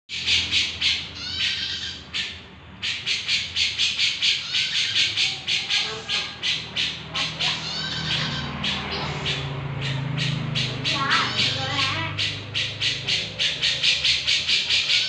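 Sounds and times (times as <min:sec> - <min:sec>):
bulbul calling harsh notes: 0:00.1 - 0:15.0.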